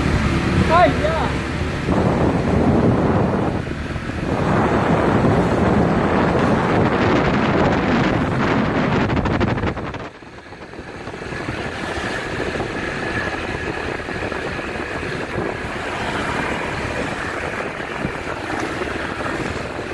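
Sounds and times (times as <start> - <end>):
motorcycle engine: 0.0 - 19.9
road noise: 0.0 - 19.9
wind buffeting microphone: 0.0 - 19.9.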